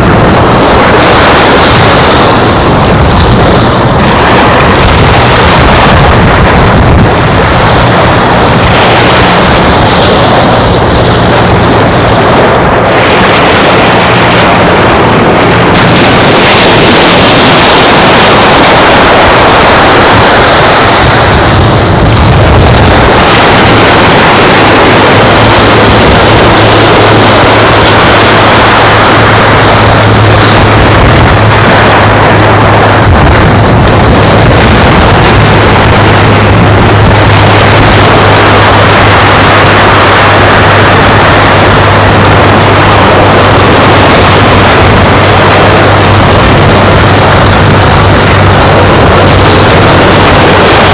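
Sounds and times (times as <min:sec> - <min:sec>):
low engine hum: 0:00.0 - 0:50.9
surf: 0:00.0 - 0:50.9
wind rushing over microphone: 0:00.0 - 0:50.9.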